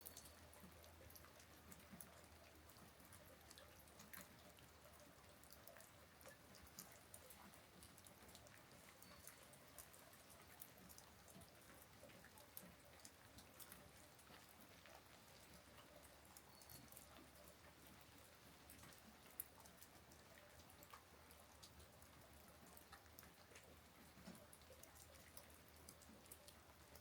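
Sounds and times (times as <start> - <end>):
light rain: 0.0 - 27.0
raindrops ticking: 0.0 - 27.0.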